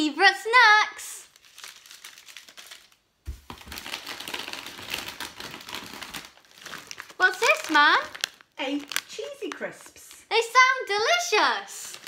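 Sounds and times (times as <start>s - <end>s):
packaging crinkling and rustling: 1.2s - 12.0s.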